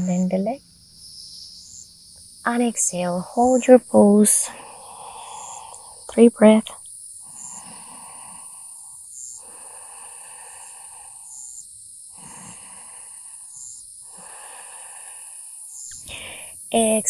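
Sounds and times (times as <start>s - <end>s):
insects trilling: 0.0s - 17.0s
lower insect buzzing: 0.0s - 17.0s.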